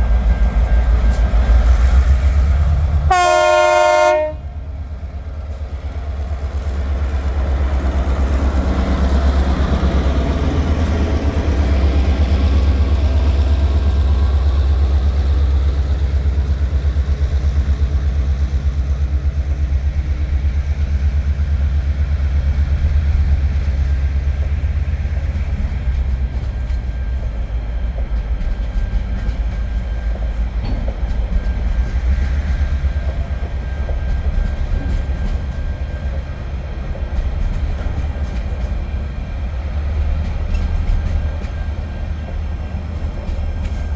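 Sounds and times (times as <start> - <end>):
locomotive engine drone: 0.0 - 43.9.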